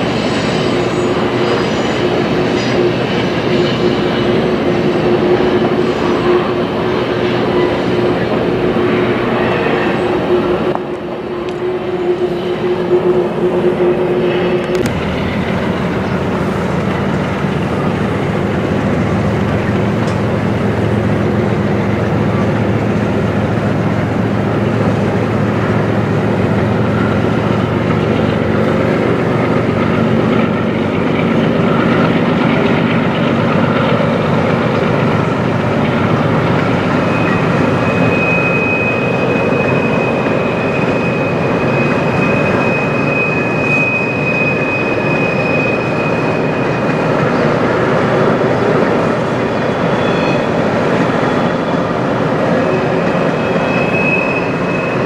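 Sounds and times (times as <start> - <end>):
high wheel squeal: 0.0 - 55.0
train wheels rumbling on rails: 0.0 - 55.0.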